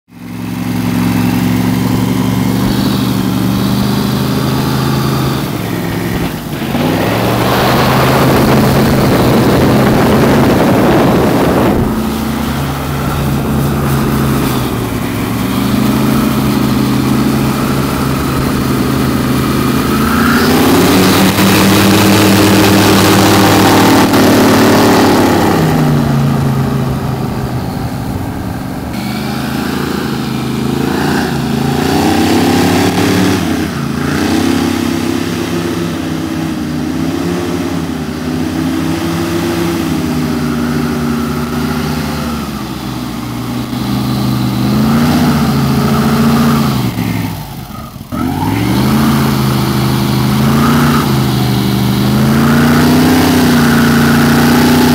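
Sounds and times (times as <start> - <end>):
airboat engine revving: 0.1 - 54.9
loud rushing noise: 0.8 - 54.9.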